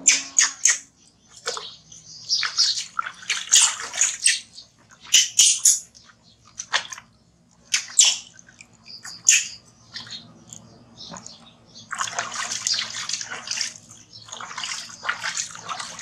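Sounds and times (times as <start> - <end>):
water splashing in a plastic basin: 1.3 - 16.0.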